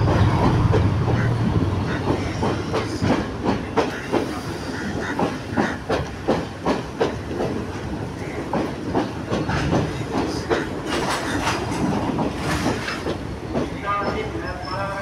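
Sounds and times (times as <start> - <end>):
train wheels clacking over rail joints: 0.0 - 14.7
rushing hiss of running train: 0.0 - 15.0.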